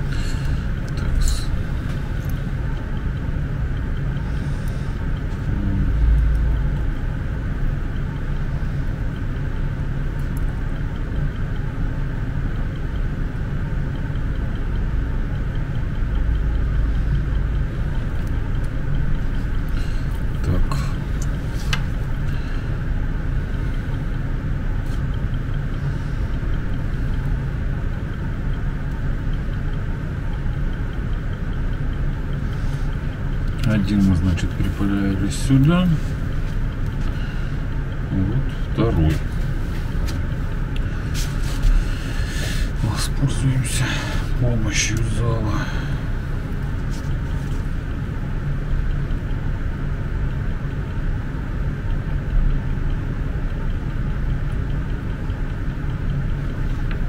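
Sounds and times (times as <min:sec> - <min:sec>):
constant hiss: 0:00.0 - 0:57.0
low hum: 0:00.0 - 0:57.0.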